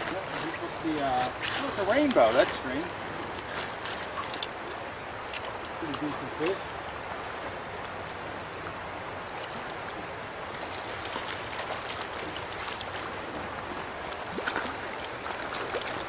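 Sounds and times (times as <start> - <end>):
stream water running over rocks: 0.0 - 16.0.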